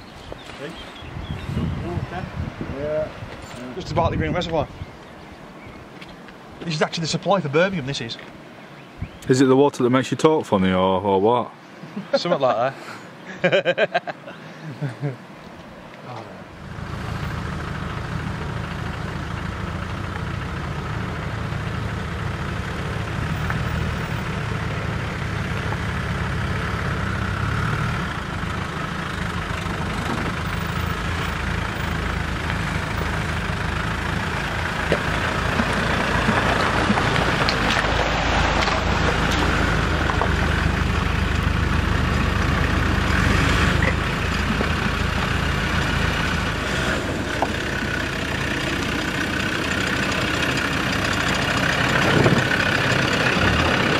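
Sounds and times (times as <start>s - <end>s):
vehicle engines at low revs: 0.0s - 9.4s, 13.0s - 53.9s.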